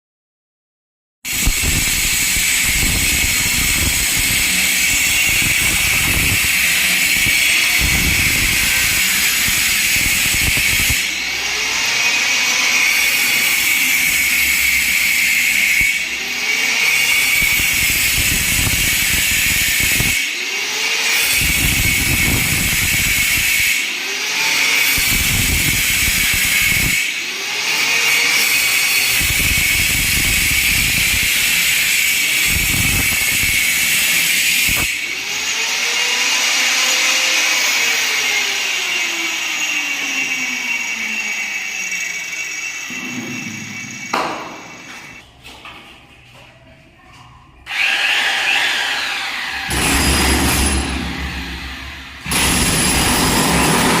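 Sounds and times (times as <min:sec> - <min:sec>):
electric grinder cutting: 0:01.3 - 0:45.2, 0:47.7 - 0:54.0.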